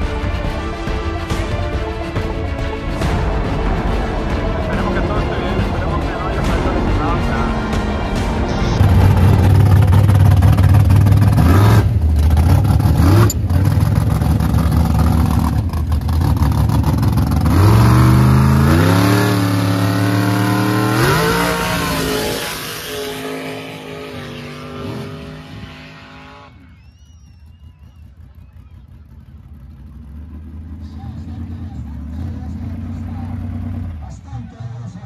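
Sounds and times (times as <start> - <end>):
truck engine accelerating: 0.0 - 35.0.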